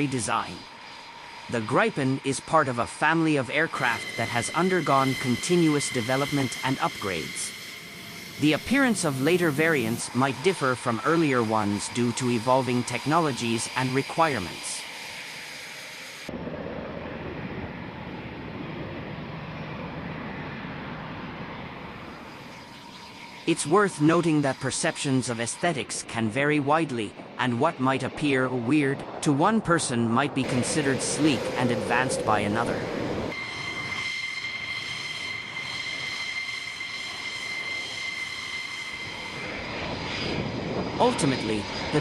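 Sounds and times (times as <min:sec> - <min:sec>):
jet engine rumble: 0:00.0 - 0:42.0.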